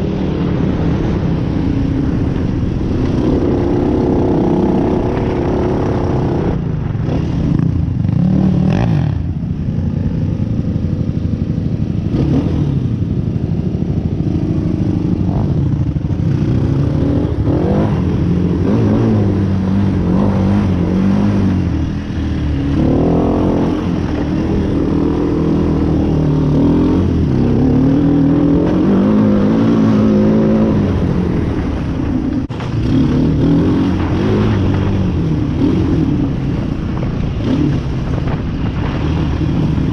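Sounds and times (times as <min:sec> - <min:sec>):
off-road engine revving: 0:02.4 - 0:09.4, 0:12.0 - 0:13.2, 0:14.2 - 0:39.9.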